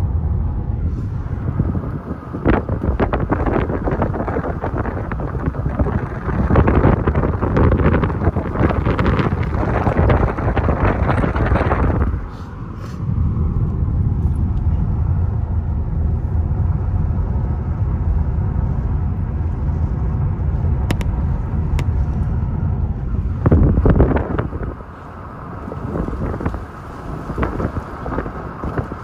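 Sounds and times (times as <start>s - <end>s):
car engine and tyres rumbling: 0.0s - 29.0s
wind buffeting microphone: 0.0s - 29.0s.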